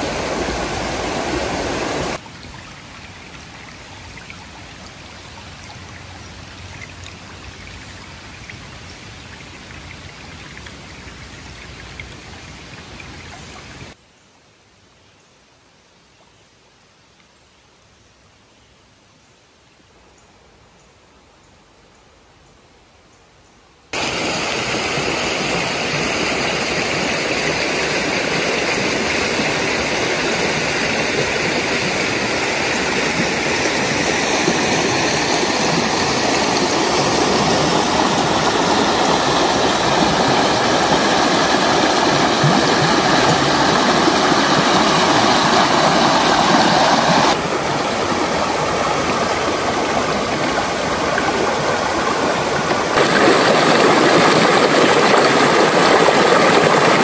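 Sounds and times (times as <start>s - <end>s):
stream rushing over rocks: 0.0s - 14.0s, 24.0s - 57.0s.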